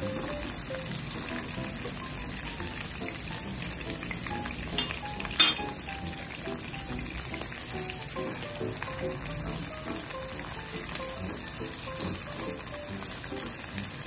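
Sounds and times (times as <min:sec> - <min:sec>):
food sizzling in oil: 0:00.0 - 0:14.0
soft background music: 0:00.0 - 0:14.0.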